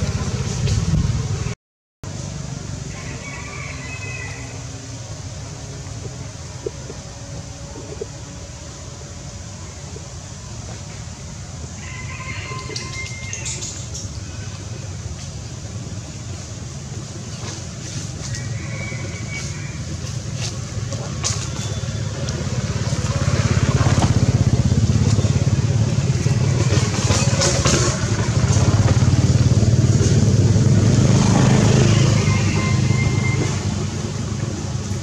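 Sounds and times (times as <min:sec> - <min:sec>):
engine rumbling: 0:00.0 - 0:35.0.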